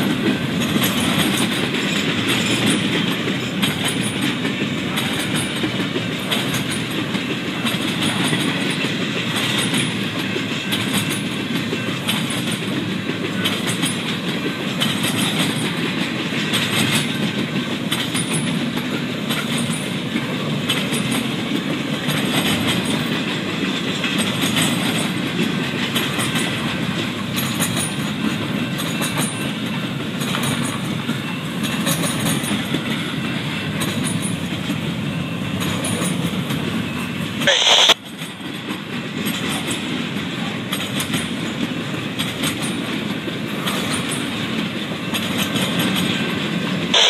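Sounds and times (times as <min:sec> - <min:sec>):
rail clacks: 0:00.0 - 0:47.0
train wheels rumbling on rail: 0:00.0 - 0:47.0.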